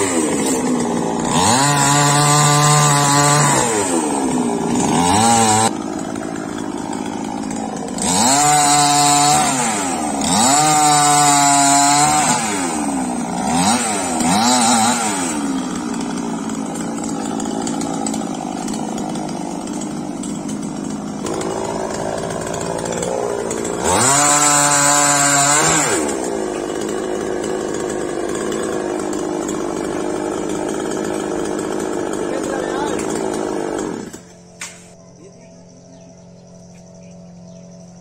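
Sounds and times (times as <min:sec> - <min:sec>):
chainsaw revving: 0:00.0 - 0:38.0.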